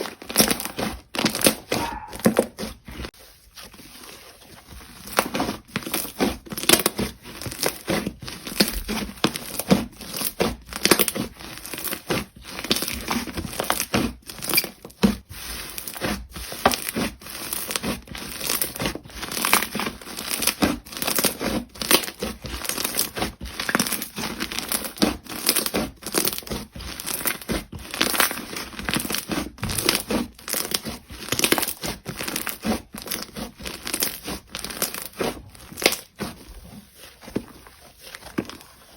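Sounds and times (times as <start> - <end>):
hands squishing sticky slime: 0.0 - 38.9.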